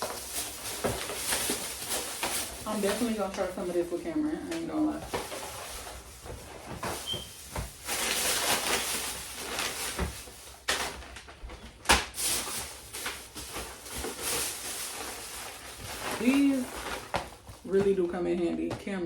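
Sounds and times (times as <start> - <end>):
packaging rustling: 0.0 - 18.8.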